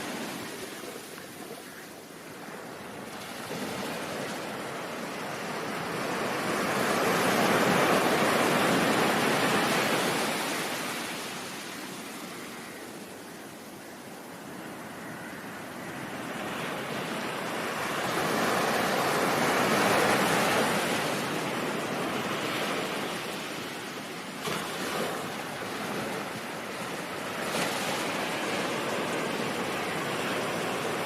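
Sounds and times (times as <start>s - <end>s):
ocean surf breaking: 0.0s - 13.1s, 14.7s - 31.0s.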